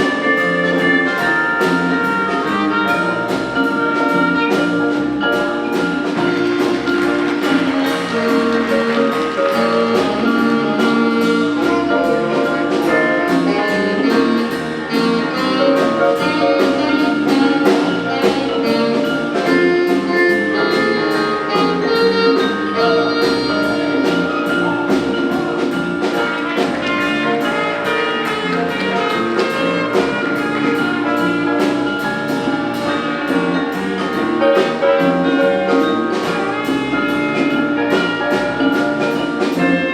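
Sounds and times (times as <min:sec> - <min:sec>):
jazz big band playing: 0:00.0 - 0:39.9.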